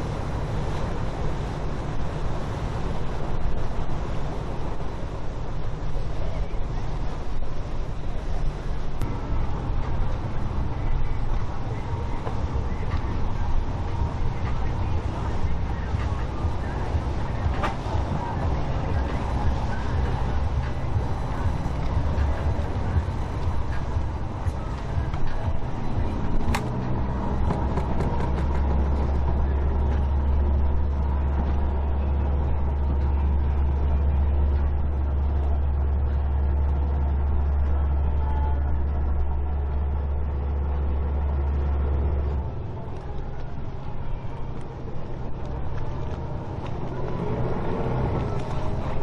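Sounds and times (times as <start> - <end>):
boat engines droning: 0.0 - 49.0
water and wake noise: 0.0 - 49.0.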